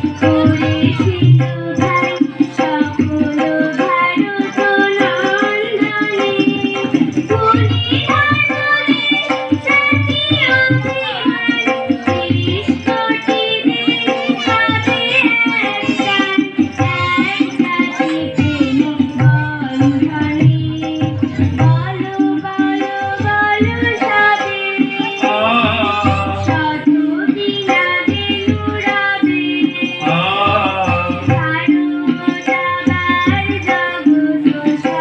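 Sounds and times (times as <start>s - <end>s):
devotional song singing: 0.0s - 35.0s
tabla strokes: 0.0s - 35.0s.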